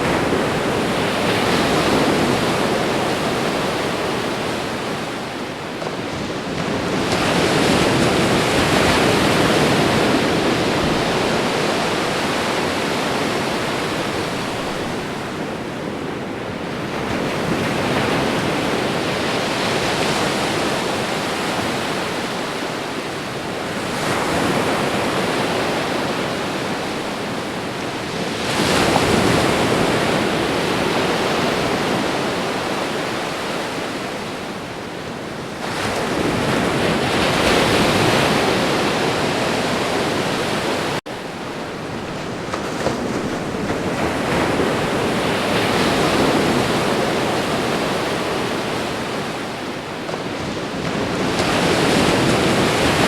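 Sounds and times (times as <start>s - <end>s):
waves breaking and washing in: 0.0s - 53.0s.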